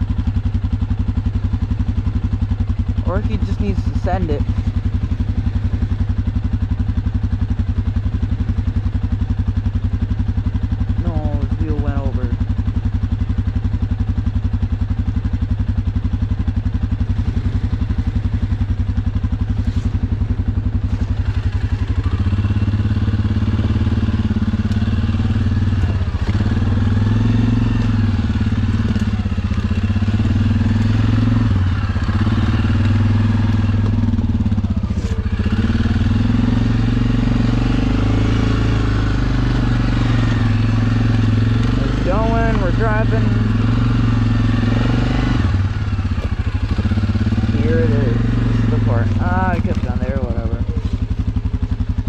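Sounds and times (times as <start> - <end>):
atv engine idling and revving: 0.0 - 52.0.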